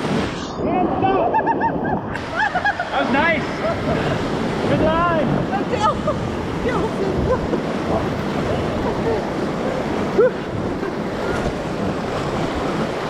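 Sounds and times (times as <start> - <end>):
water gurgles and splashes: 0.0 - 13.0
whitewater rushing: 2.2 - 13.0.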